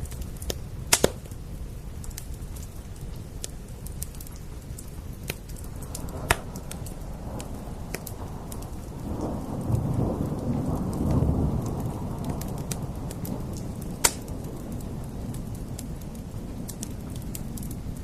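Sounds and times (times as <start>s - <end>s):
rain hiss: 0.0s - 18.0s
wood fire crackling and popping: 0.0s - 18.0s.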